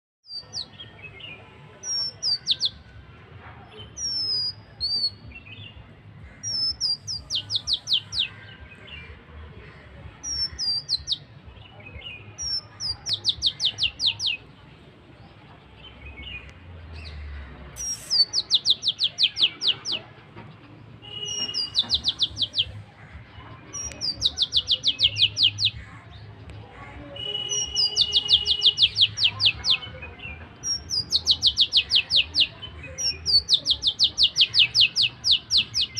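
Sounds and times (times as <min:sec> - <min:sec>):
songbird singing: 0:00.2 - 0:02.9, 0:03.7 - 0:35.9.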